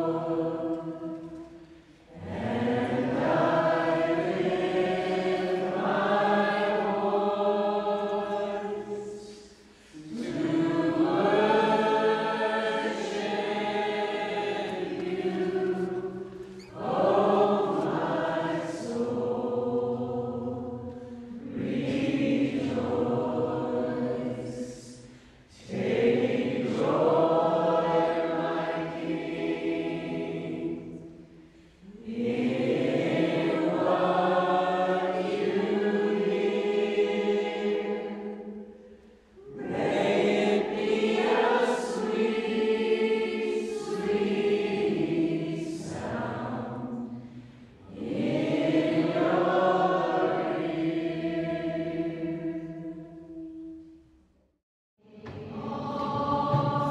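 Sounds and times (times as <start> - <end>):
group singing a hymn: 0.0 - 53.9, 55.0 - 56.9.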